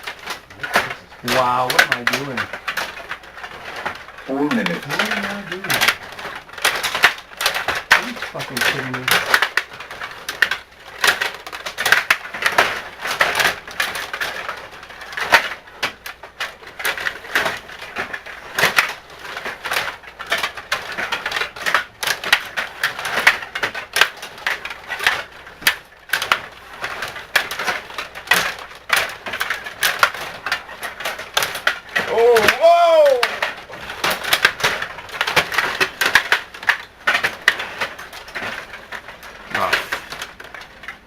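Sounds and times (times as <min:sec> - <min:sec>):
table hockey rods clattering: 0:00.0 - 0:41.0.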